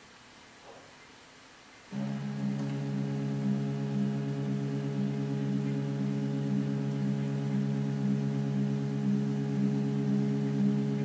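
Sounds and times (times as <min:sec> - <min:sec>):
stepper motors singing: 0:01.9 - 0:11.0.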